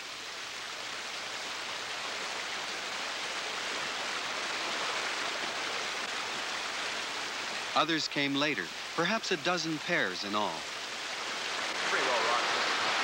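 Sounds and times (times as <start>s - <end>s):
creek water running over stones: 0.0s - 13.0s.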